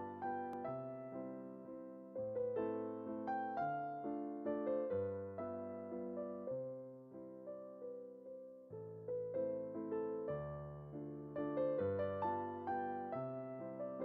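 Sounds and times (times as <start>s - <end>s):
gentle piano playing: 0.0s - 14.0s.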